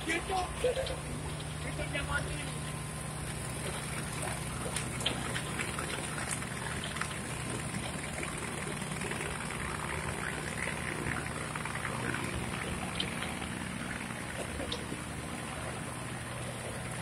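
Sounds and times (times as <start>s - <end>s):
crushing mill machinery humming: 0.0s - 17.0s.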